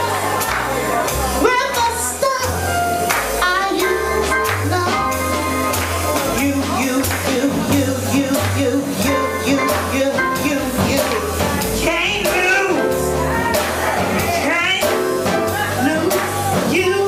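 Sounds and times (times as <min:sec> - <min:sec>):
drums with cymbal hits: 0:00.0 - 0:17.0
keyboard chords: 0:00.0 - 0:17.0
walking bass line: 0:00.0 - 0:17.0.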